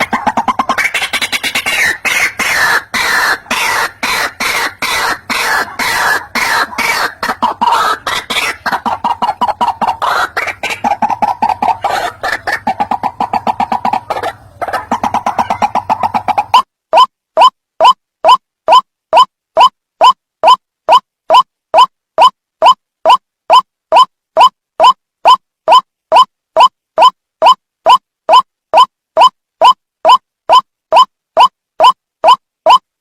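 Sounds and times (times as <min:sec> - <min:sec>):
waterhen harsh repeated croaks: 0:00.0 - 0:32.9.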